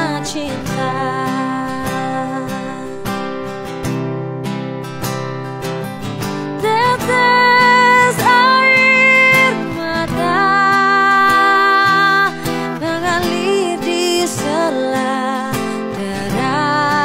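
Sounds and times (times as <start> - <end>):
woman singing: 0.0 - 3.4, 6.4 - 17.0
strummed acoustic guitar: 0.0 - 17.0.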